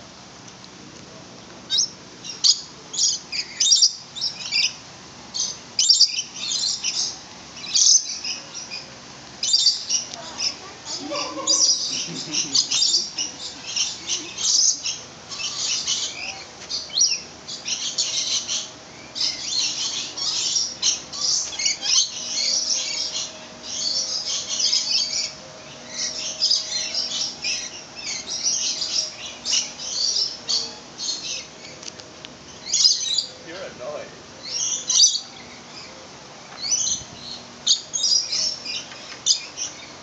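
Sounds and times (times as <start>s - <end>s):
birds chirping in chorus: 1.7s - 40.0s.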